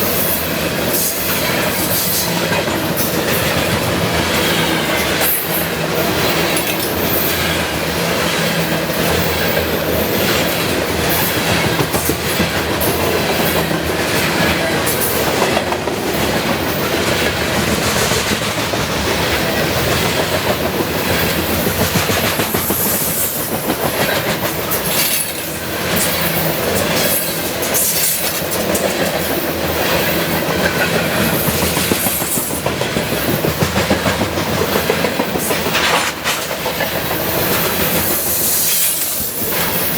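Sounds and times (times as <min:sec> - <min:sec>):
freight train cars rolling past: 0:00.0 - 0:39.9
wheels clicking over rail joints: 0:00.0 - 0:39.9.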